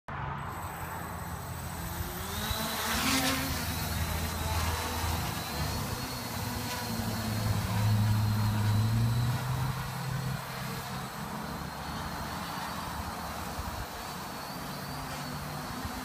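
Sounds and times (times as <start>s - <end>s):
quadcopter motors humming: 0.2s - 16.0s.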